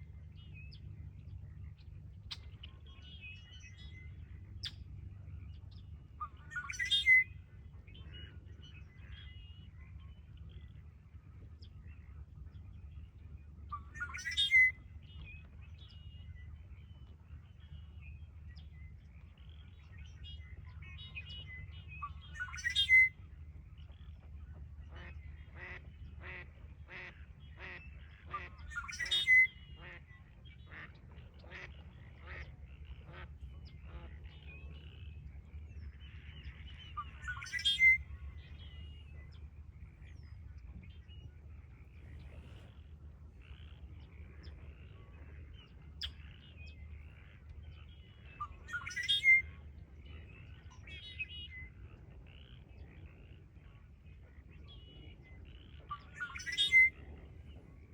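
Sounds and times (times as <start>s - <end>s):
blackbird buzzy trilled song: 2.2s - 10.8s, 12.8s - 23.3s, 24.8s - 57.9s.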